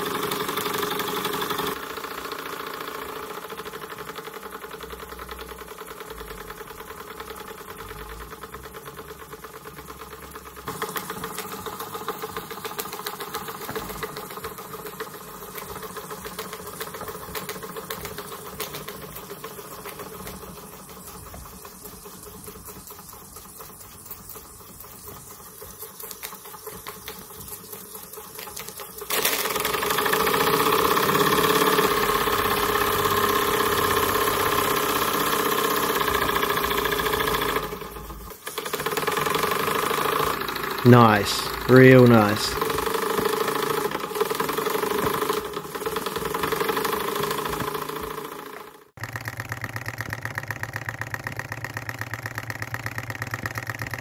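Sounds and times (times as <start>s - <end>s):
miniature steam engine clatter: 0.0s - 54.0s.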